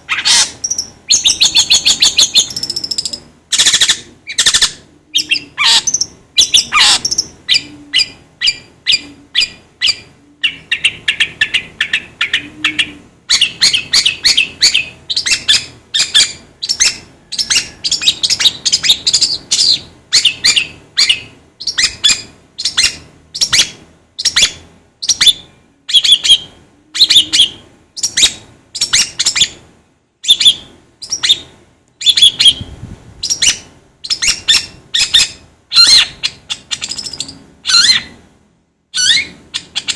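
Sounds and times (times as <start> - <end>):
songbird chirping: 0.0 - 38.3.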